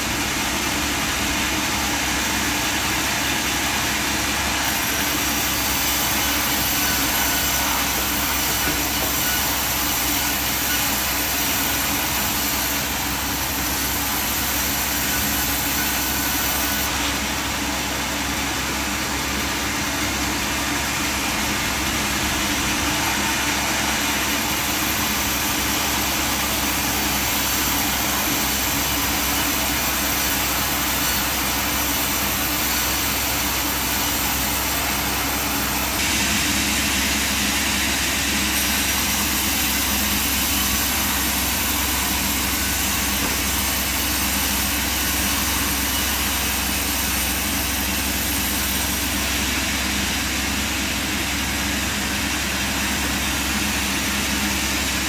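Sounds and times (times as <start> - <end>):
motor humming with hiss: 4.1 - 49.4.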